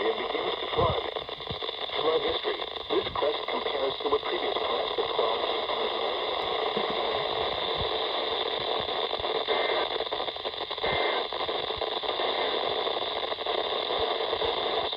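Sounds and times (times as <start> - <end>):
faint crackles: 0.0 - 14.9
radio static hiss: 0.0 - 14.9.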